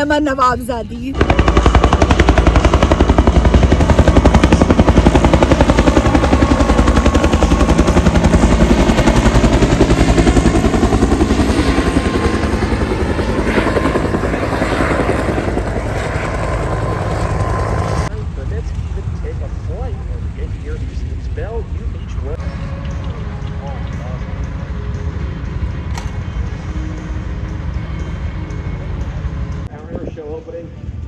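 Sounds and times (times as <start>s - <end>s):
helicopter rotor blades chopping: 0.0s - 29.8s.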